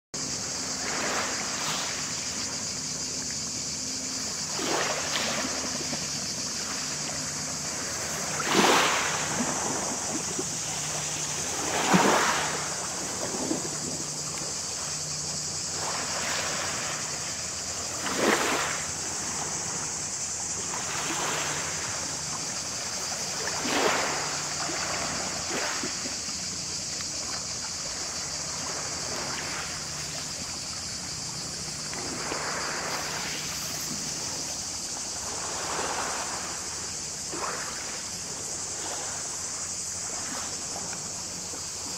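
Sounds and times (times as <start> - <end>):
small waves on a pebble shore: 0.2 - 41.9
steady high-pitched hiss: 0.2 - 41.9.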